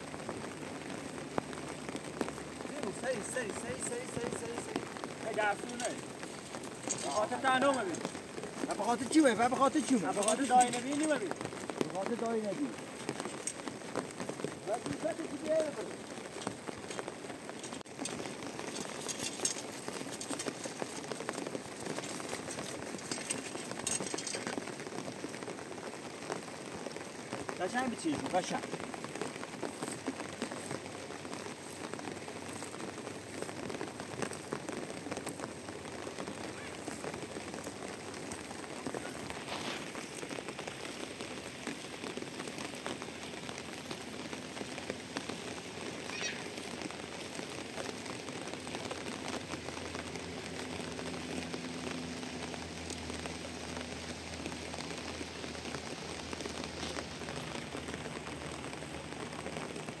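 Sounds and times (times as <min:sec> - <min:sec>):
rain pattering: 0:00.0 - 1:00.0.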